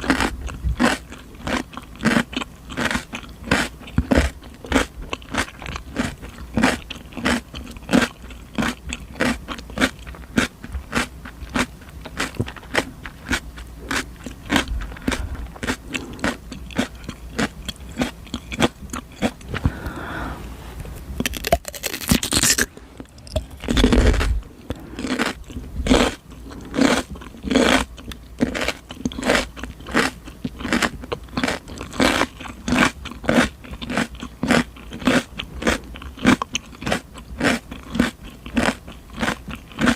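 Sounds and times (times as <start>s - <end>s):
cucumber crunching when chewed: 0.0s - 20.0s, 20.9s - 39.9s.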